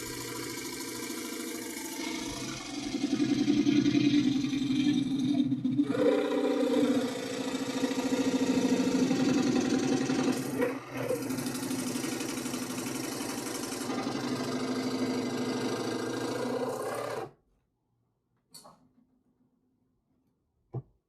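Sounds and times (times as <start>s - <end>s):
power saw cutting plastic: 0.0s - 17.4s.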